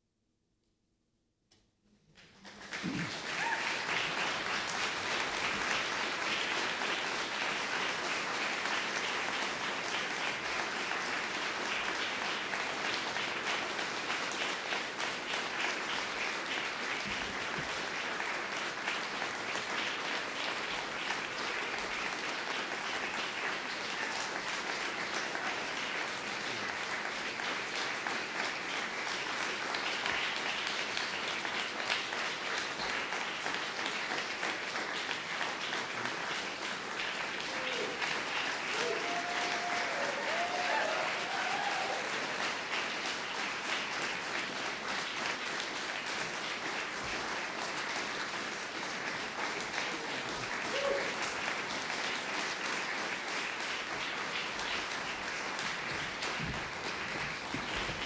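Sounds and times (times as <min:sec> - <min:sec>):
audience applauding: 0:02.2 - 0:58.0.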